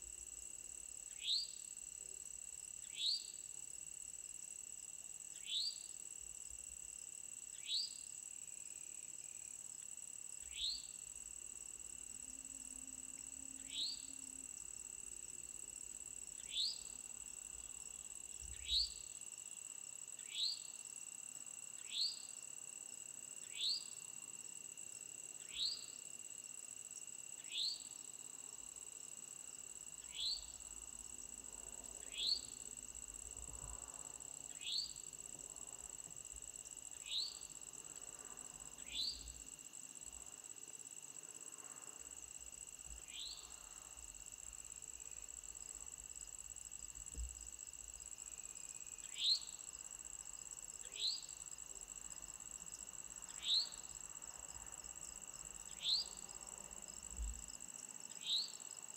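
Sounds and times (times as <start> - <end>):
insect chorus: 0.0 - 58.9.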